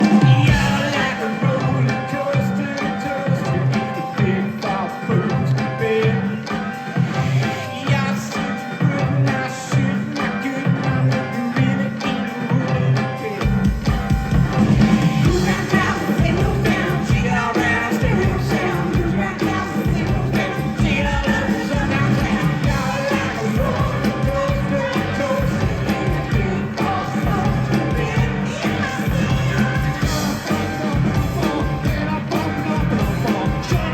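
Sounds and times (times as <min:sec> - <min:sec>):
live rock band playing: 0:00.0 - 0:33.9
person singing: 0:00.0 - 0:33.9.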